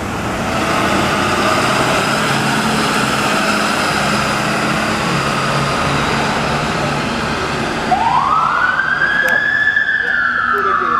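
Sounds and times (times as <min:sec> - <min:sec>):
truck engine driving away: 0:00.0 - 0:10.9.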